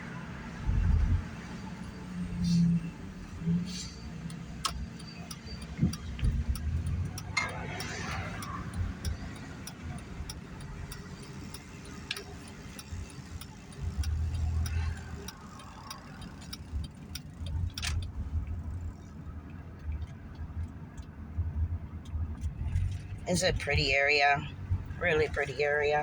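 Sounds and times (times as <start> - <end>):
engine and road rumble: 0.0 - 26.0
turn signal ticking: 0.3 - 26.0.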